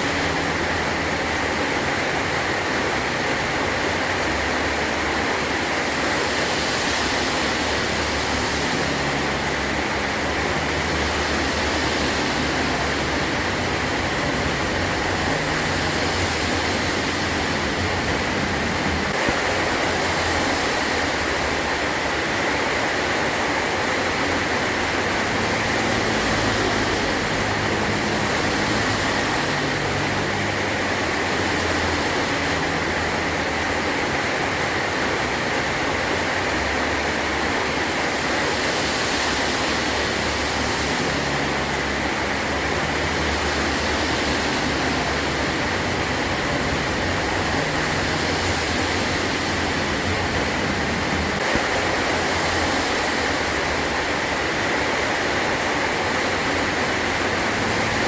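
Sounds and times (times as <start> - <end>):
heavy rain on a metal roof: 0.0 - 58.0.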